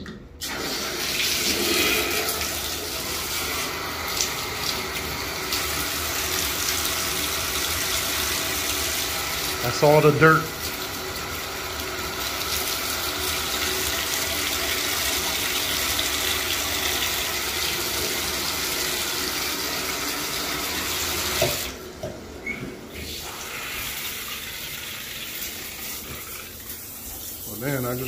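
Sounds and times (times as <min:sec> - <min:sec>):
tap water running: 0:00.0 - 0:28.0.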